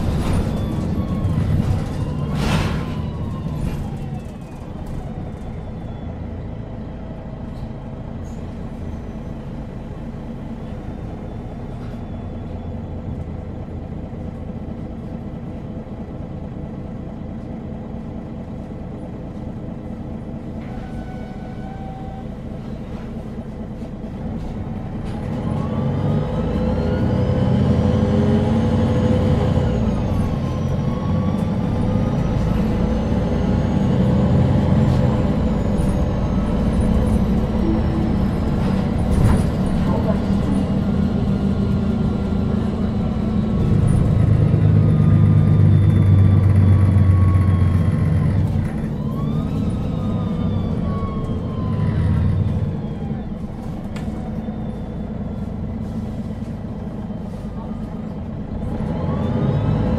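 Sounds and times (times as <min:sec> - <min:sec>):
bus engine idling: 0:00.0 - 0:59.9.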